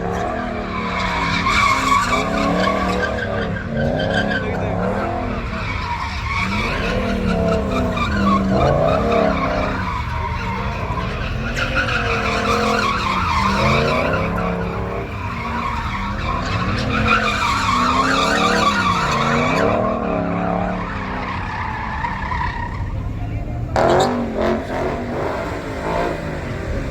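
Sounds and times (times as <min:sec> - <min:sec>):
engine revving: 0:00.0 - 0:21.4, 0:23.7 - 0:26.9
tires squealing: 0:00.0 - 0:26.9.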